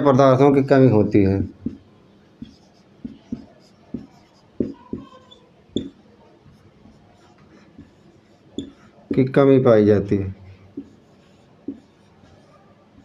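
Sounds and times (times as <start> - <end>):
marker pen writing on whiteboard: 0.9 - 13.0.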